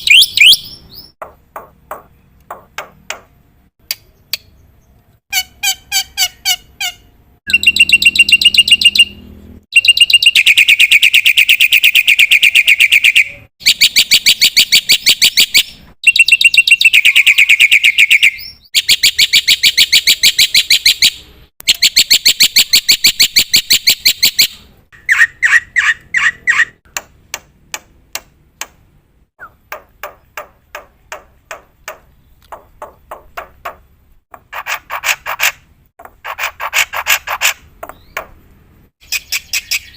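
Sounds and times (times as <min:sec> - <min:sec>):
bird calling harsh repeated notes: 0:00.0 - 0:04.6, 0:05.3 - 0:26.9, 0:29.4 - 0:38.4, 0:39.0 - 0:39.9.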